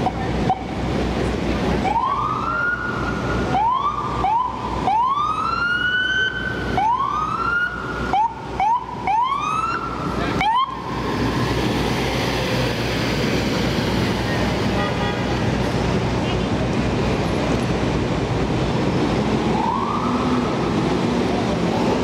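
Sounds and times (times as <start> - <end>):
vehicle engine: 0.0 - 7.1, 7.7 - 22.0
street traffic: 0.0 - 22.0.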